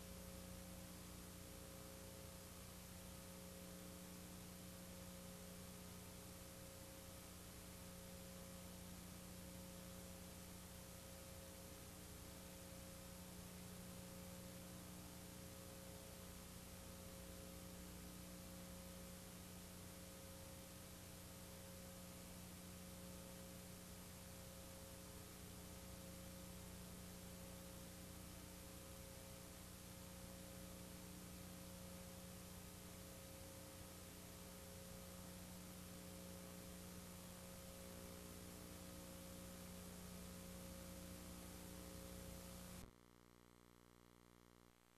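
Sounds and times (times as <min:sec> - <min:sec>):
faint electrical hum: 0:00.0 - 0:44.9.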